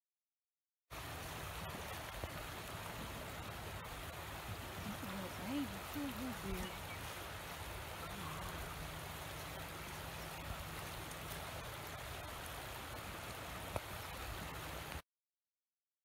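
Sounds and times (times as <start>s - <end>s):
river water flowing over rocks: 0.9s - 15.0s.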